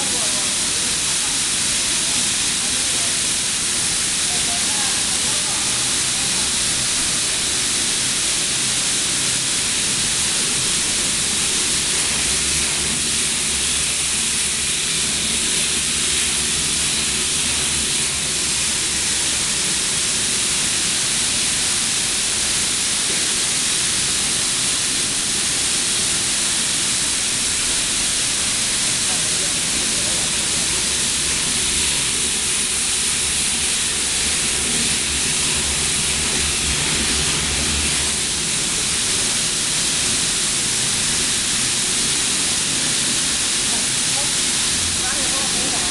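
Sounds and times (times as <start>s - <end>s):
processing machinery running: 0.0s - 45.9s.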